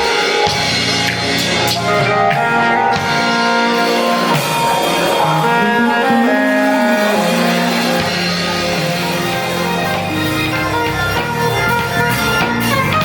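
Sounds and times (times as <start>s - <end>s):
live band instrumental: 0.0s - 13.0s.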